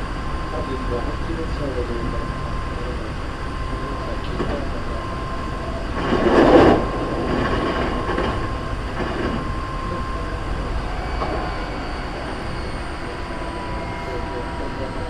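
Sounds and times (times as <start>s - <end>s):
faint constant tone: 0.0s - 15.0s
train running rumble: 0.0s - 15.0s.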